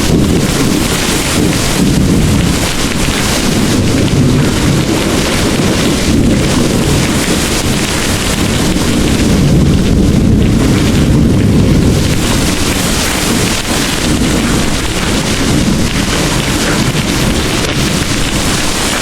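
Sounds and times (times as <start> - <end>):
heavy rain pouring: 0.0 - 19.0
rolling thunder rumble: 0.0 - 19.0.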